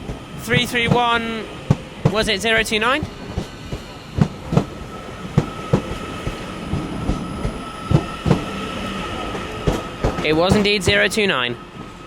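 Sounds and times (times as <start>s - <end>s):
train wheels clicking over joints: 0.0s - 11.4s.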